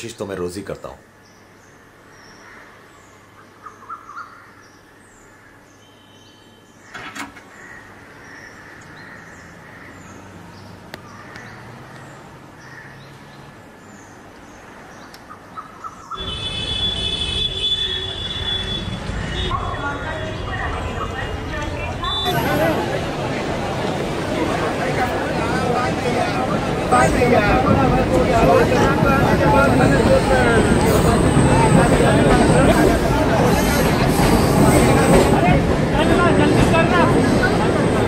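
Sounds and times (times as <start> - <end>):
busy street traffic: 0.0 - 38.0.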